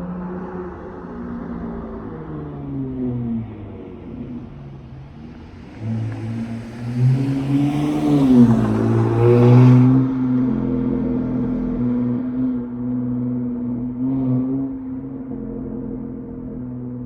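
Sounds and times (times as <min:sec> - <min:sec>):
car exhaust under hard acceleration: 0:02.8 - 0:17.0.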